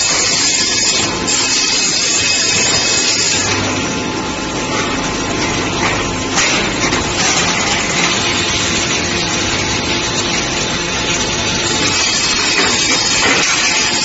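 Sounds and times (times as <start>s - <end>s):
production line machinery: 0.0s - 14.0s.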